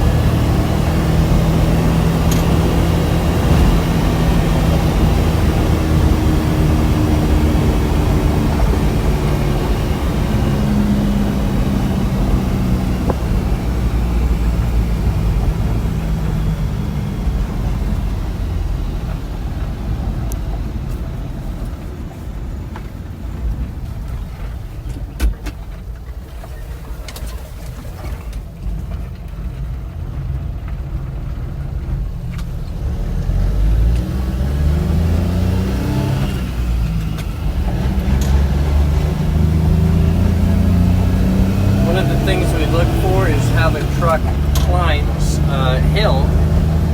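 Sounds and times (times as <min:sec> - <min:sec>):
small truck engine running: 0:00.0 - 0:25.1, 0:28.6 - 0:46.9.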